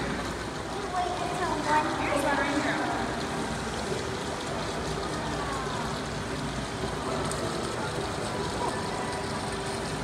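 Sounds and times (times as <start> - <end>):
indistinct chatter of visitors: 0.0 - 10.0.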